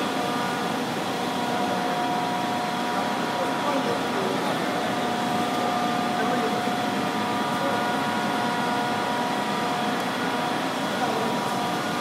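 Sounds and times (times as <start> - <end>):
heavy machinery hum: 0.0 - 12.0
steady whining tones: 0.0 - 12.0.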